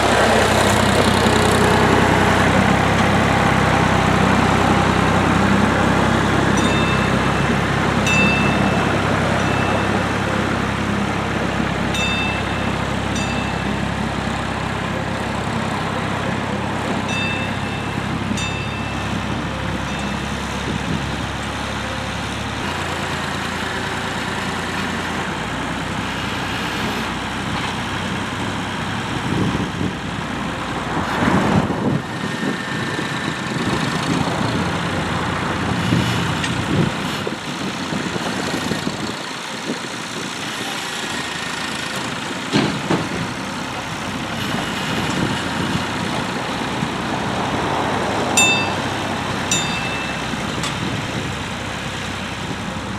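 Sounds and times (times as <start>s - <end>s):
heavy engine running: 0.0s - 52.9s.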